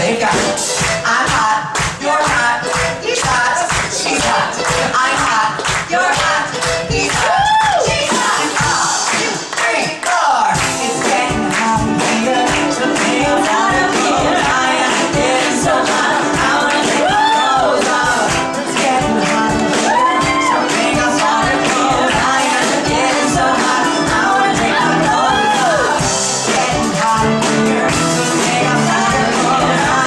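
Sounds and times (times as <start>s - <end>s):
duo singing with a band: 0.0s - 30.0s.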